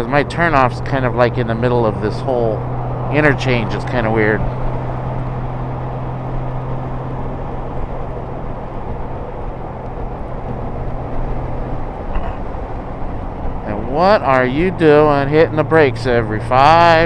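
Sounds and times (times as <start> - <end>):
heavy wind noise: 0.0 - 17.0
motorcycle engine cruising: 0.0 - 17.0
road noise: 0.0 - 17.0.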